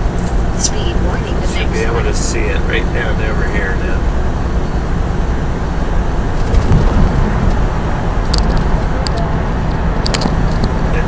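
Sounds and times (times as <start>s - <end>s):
diesel truck engine droning: 0.0s - 11.0s
road noise: 0.0s - 11.0s.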